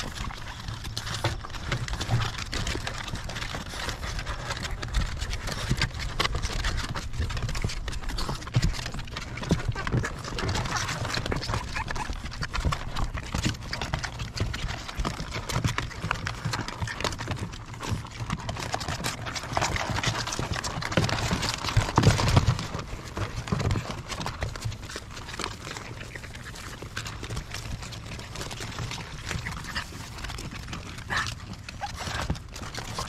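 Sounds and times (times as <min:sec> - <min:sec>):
puppies suckling wet smacks: 0:00.0 - 0:33.0.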